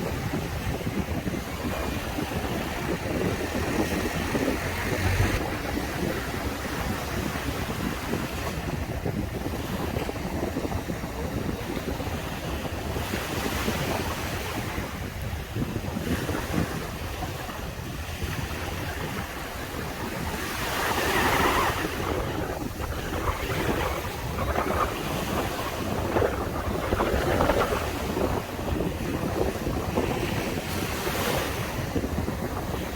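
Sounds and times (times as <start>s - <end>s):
sea waves breaking on a beach: 0.0s - 32.9s
wind on microphone: 0.0s - 32.9s.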